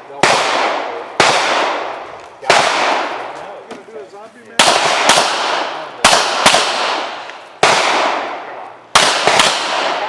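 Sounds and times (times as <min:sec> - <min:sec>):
pistol gunshots with echo: 0:00.1 - 0:03.4, 0:04.6 - 0:10.0.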